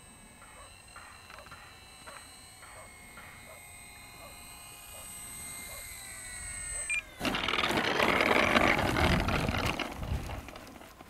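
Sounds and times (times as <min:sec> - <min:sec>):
model plane electric motor whining: 0:00.0 - 0:11.0.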